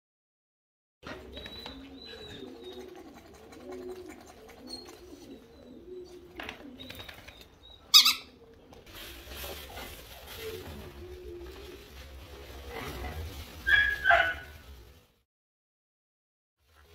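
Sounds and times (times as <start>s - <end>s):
pigeons cooing: 1.0s - 14.8s.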